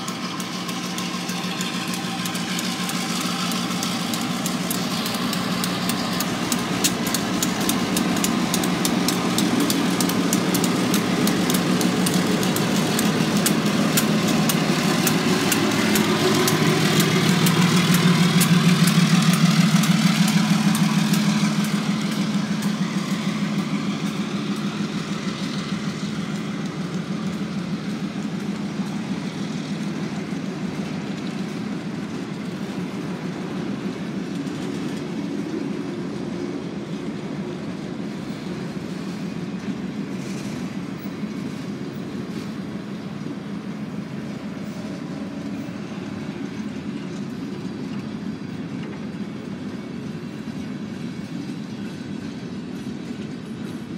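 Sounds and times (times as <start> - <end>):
diesel locomotive engine drone: 0.0 - 53.9
train wheels rumbling on rail: 0.0 - 53.9.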